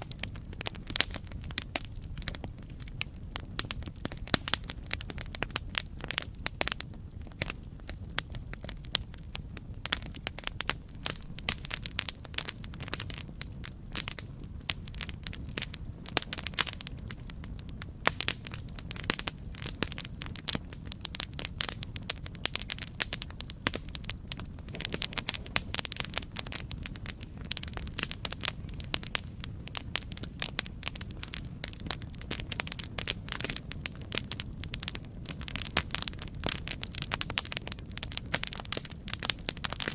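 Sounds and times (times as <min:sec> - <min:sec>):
burning wood crackling and popping: 0:00.0 - 0:39.9
campfire rumble: 0:00.0 - 0:39.9.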